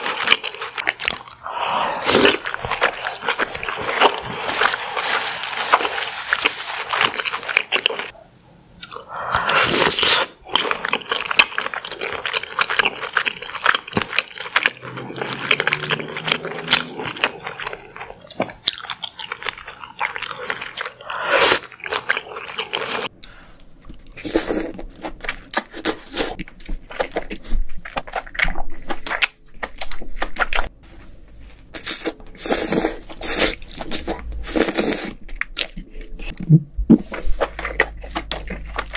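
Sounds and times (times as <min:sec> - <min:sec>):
chewing and crunching: 0:00.0 - 0:08.2, 0:08.8 - 0:23.1, 0:23.8 - 0:30.7, 0:31.7 - 0:38.9.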